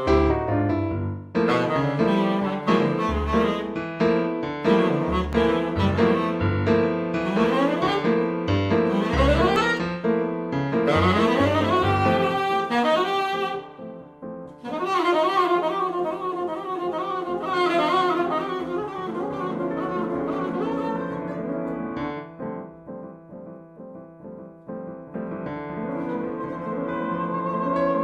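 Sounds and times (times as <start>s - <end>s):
piano chords: 0.0s - 28.0s
saxophone melody: 1.4s - 21.6s, 25.8s - 28.0s.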